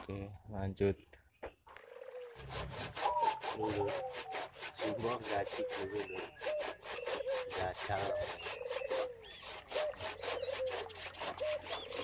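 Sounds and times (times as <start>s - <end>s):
handsaw cutting through log: 2.3s - 12.0s.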